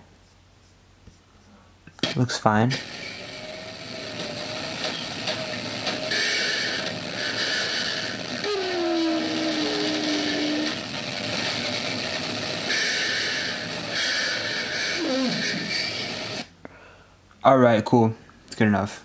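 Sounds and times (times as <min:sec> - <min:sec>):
harsh distorted noisy hiss: 0:00.0 - 0:19.0.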